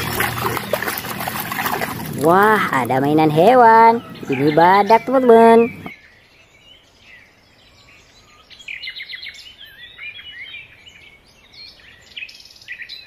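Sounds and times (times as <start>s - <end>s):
birds chirping and singing: 0.0s - 11.0s
faint outdoor background noise: 0.0s - 13.0s.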